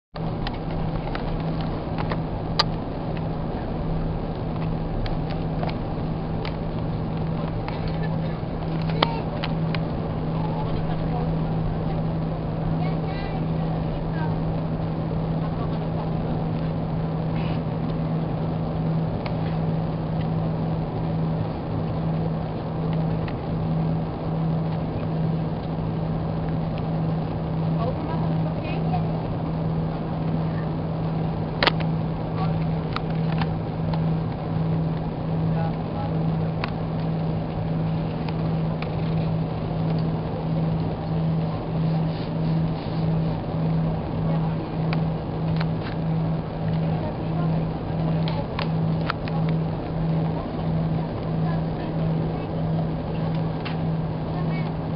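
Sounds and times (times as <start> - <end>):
constant low hum: 0.0 - 54.9
jet engine and airflow rush: 0.2 - 54.9.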